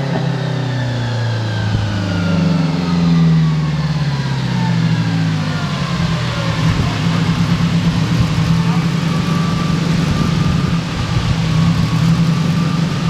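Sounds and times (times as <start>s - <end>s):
car engine revs falling: 0.0s - 13.0s.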